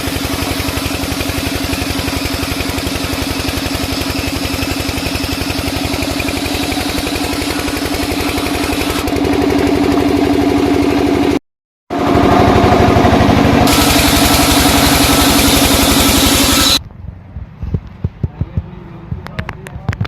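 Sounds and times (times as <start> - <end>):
engine running: 0.0 - 17.4.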